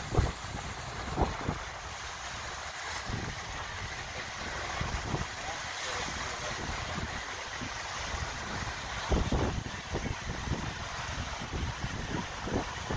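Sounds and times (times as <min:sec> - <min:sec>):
wind buffeting microphone: 0:00.0 - 0:05.4, 0:06.2 - 0:12.9
small waves breaking: 0:00.0 - 0:12.9.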